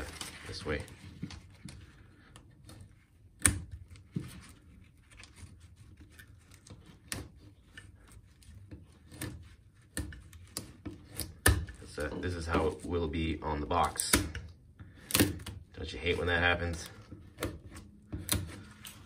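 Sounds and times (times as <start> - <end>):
knife blade scraping plastic strap: 0.0 - 19.0.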